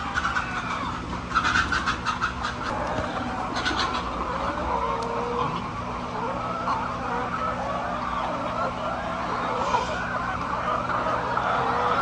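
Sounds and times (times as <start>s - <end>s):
chickens clucking and squawking: 0.0s - 12.0s
steady low hum: 0.0s - 12.0s.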